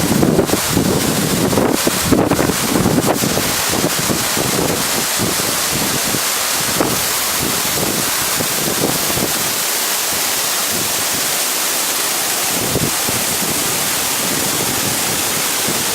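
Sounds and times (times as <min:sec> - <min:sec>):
wind buffeting microphone: 0:00.0 - 0:11.2, 0:12.4 - 0:15.9
waterfall rushing: 0:00.0 - 0:15.9.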